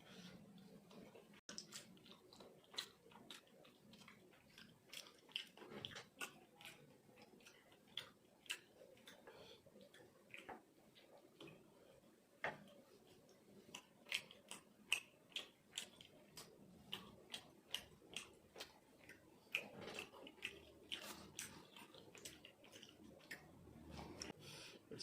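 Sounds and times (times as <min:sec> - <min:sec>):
wet chewing mouth clicks: 0:00.5 - 0:11.6, 0:12.5 - 0:24.4.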